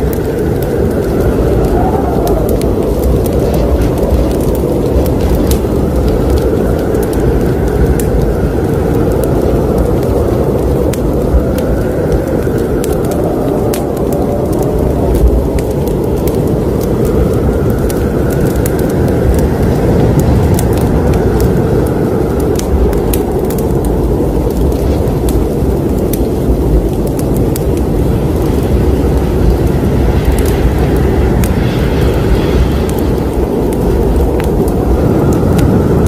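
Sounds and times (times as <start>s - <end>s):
fireplace fire crackling: 0.0s - 36.0s.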